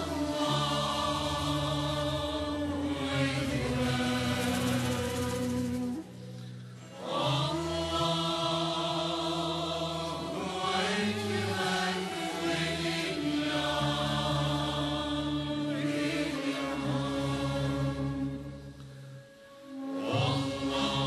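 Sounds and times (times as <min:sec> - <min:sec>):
steady low drone: 0:00.0 - 0:21.0.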